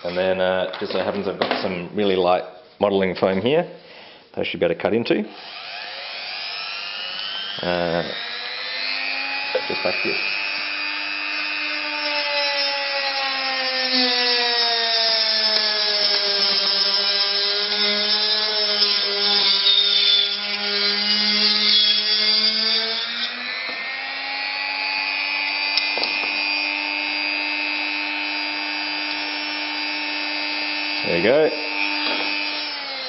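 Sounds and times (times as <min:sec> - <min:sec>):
rotary tool whining: 0:05.3 - 0:33.0.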